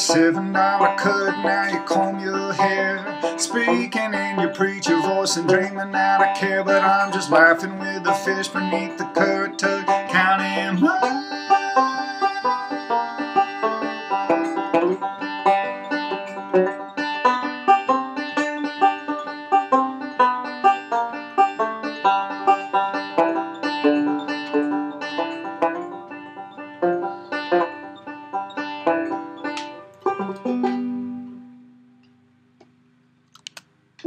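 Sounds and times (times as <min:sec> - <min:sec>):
banjo picking: 0:00.0 - 0:32.0.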